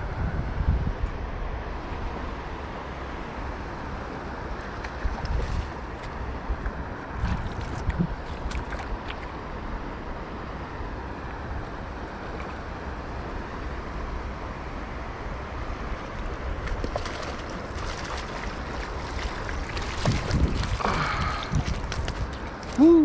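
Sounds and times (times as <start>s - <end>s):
wind rumble on microphone: 0.0s - 23.0s
river water rushing: 1.4s - 23.0s.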